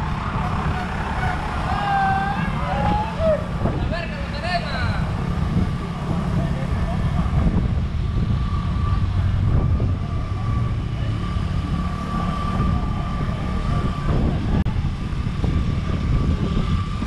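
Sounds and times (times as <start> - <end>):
rumble of road traffic: 0.0 - 17.0.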